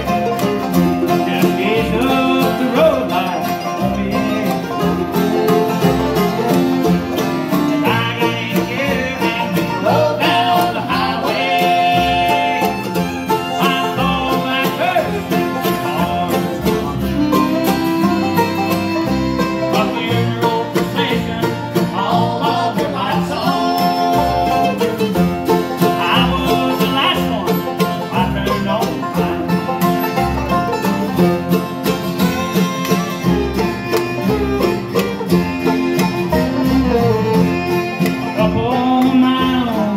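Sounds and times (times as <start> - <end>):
acoustic guitar: 0.0 - 39.9
banjo: 0.0 - 39.9
fiddle: 0.0 - 39.9
mandolin: 0.0 - 39.9
upright bass: 0.0 - 39.9.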